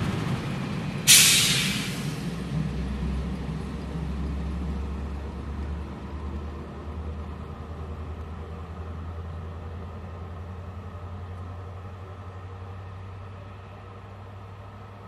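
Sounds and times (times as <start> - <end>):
diesel railbus engine drone: 0.0 - 15.0.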